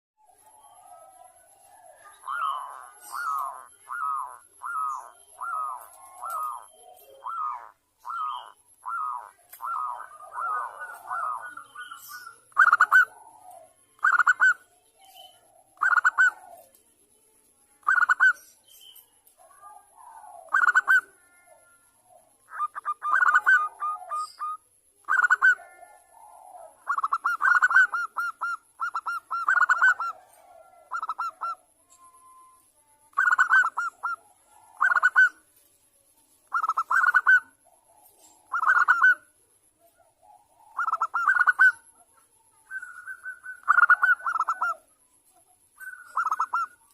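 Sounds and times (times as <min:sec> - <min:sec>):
dove cooing: 0:00.2 - 0:16.8, 0:17.8 - 0:18.5, 0:19.3 - 0:35.5, 0:36.4 - 0:44.9, 0:45.8 - 0:46.9.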